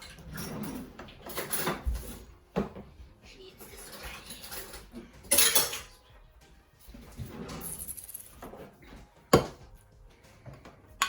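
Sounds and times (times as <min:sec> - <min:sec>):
kitchen scraping and rustling: 0:00.0 - 0:06.1, 0:06.7 - 0:09.7.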